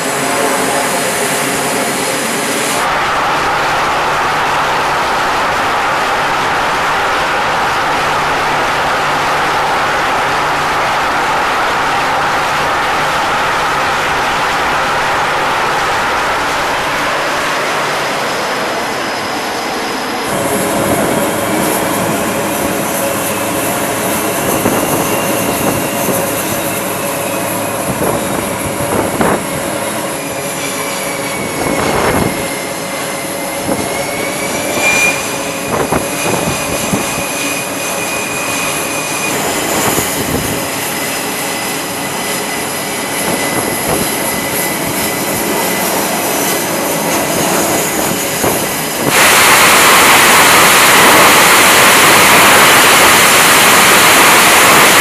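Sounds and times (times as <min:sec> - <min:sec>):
high jet engine whine: 0:00.0 - 0:55.0
jet engines roaring: 0:00.0 - 0:55.0.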